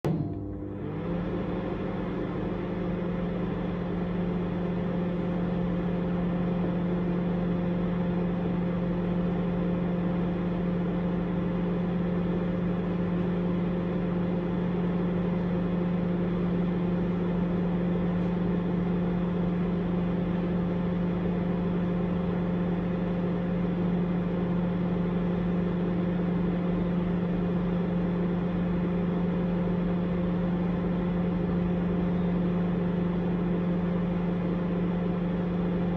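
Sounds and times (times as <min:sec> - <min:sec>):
microwave oven humming: 0:00.0 - 0:35.9.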